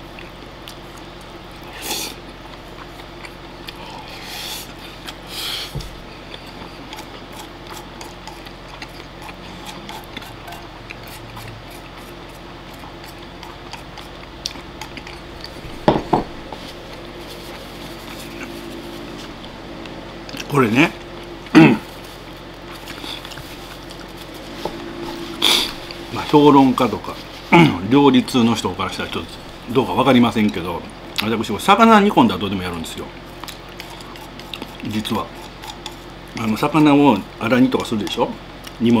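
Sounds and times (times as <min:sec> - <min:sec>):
man chewing: 0:00.0 - 0:27.8, 0:33.1 - 0:36.5, 0:38.5 - 0:38.8.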